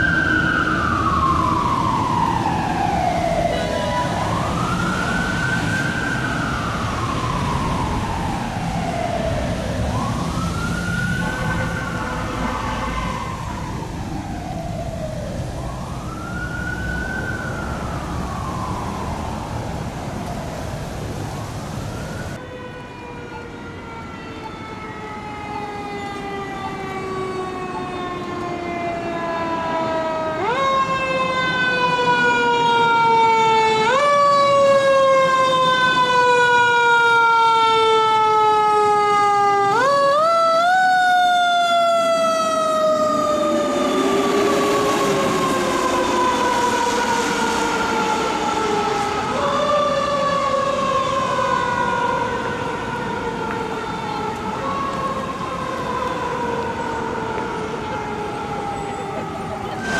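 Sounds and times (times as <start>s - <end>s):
fire engine siren wailing: 0.0s - 59.9s
second fire engine siren: 0.0s - 59.9s
traffic noise: 0.0s - 59.9s.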